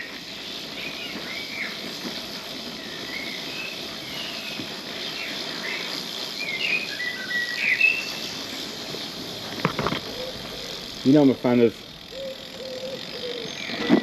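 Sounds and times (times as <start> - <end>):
small birds chirping: 0.0 - 14.0
steady outdoor hiss: 0.0 - 14.0.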